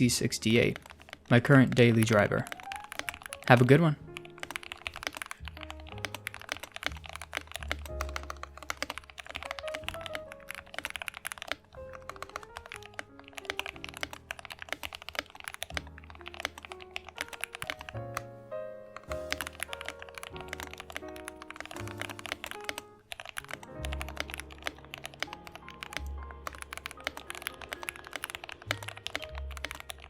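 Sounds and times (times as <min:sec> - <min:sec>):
mechanical keyboard typing: 0:00.0 - 0:18.3, 0:19.0 - 0:30.0
background music: 0:00.0 - 0:30.0.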